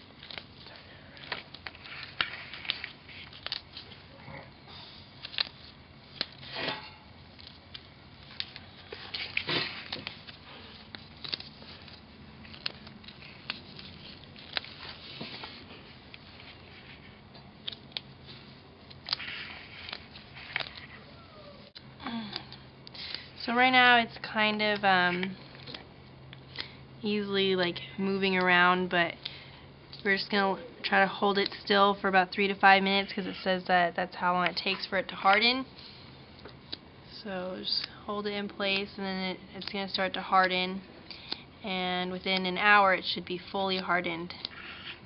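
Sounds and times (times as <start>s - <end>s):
gloves rustling: 0.0s - 45.0s.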